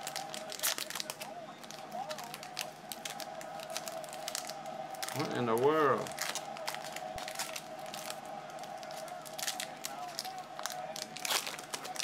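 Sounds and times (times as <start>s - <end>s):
foil wrapper crinkling and tearing: 0.0s - 5.2s, 6.0s - 12.0s.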